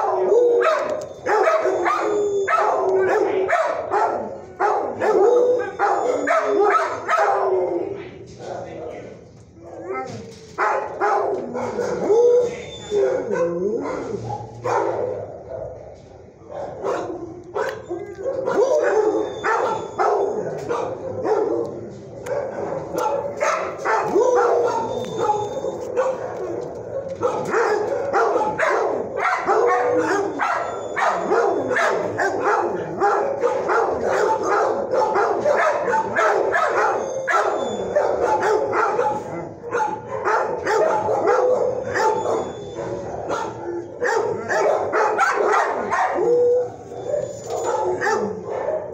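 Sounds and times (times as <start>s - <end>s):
many dogs barking and yipping: 0.0s - 8.0s, 10.0s - 48.9s.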